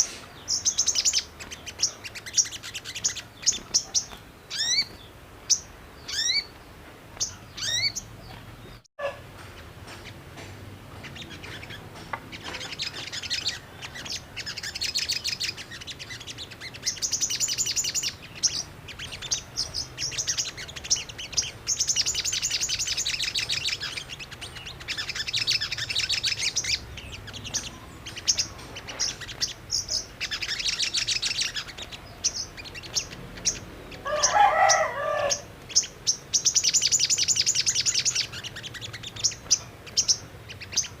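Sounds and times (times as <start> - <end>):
sunbird chattering song: 0.0 - 41.0.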